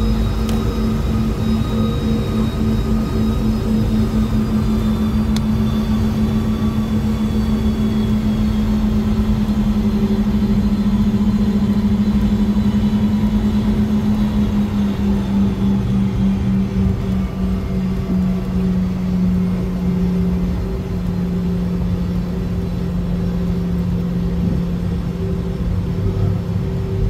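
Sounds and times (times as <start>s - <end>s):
jet engines droning in cabin: 0.0s - 27.0s.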